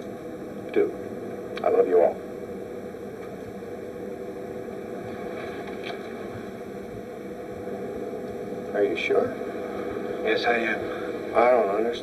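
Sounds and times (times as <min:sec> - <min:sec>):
low rumble of harbour ambience: 0:00.0 - 0:12.0.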